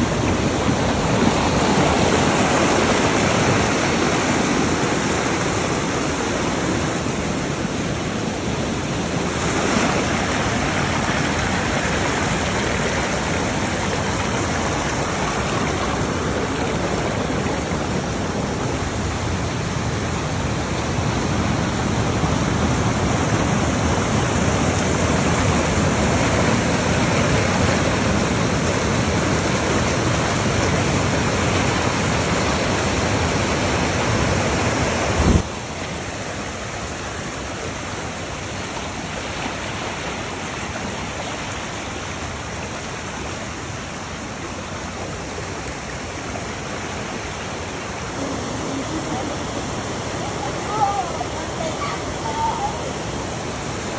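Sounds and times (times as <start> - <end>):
water rushing over rocks: 0.0 - 53.9.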